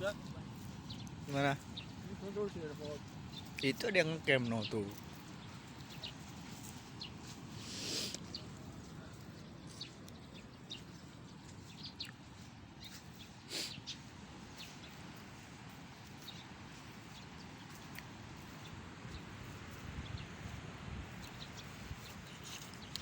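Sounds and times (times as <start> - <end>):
birds chirping: 0.0 - 23.0
steady outdoor hiss: 0.0 - 23.0.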